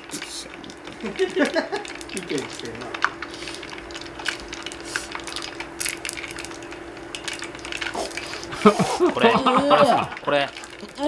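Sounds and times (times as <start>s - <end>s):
steady low hum: 0.0s - 11.0s
crunching of fried food being eaten: 0.1s - 9.0s.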